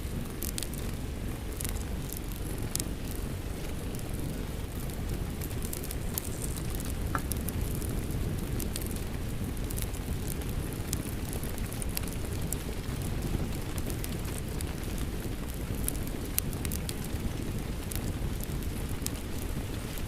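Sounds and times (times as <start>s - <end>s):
fireplace crackling: 0.0s - 20.0s.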